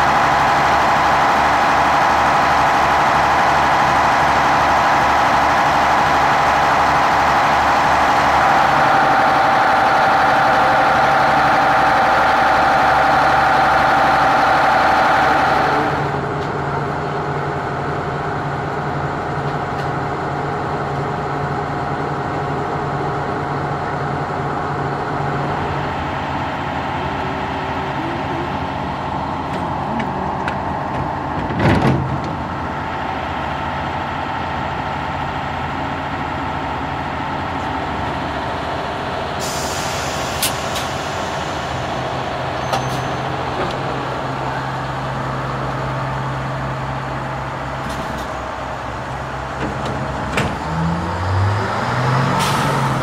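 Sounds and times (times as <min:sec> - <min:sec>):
diesel engines idling: 0:00.0 - 0:53.0.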